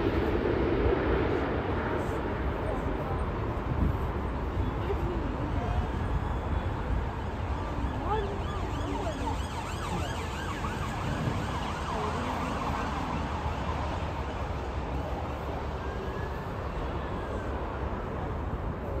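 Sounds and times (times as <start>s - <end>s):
jet engine with low rumble: 0.0s - 19.0s.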